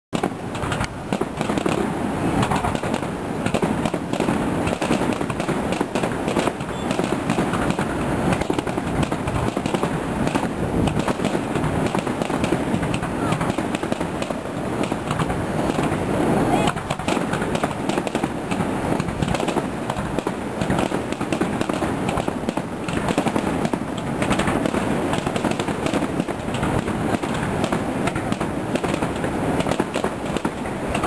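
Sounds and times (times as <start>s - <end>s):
fireworks bangs and crackling: 0.2s - 31.0s.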